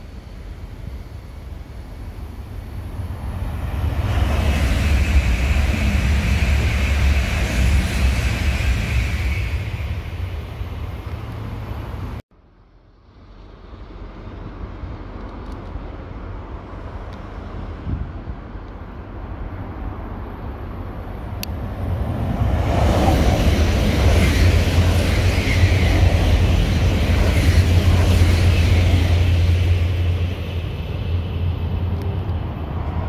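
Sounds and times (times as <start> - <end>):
high-speed train passing: 0.0 - 33.0.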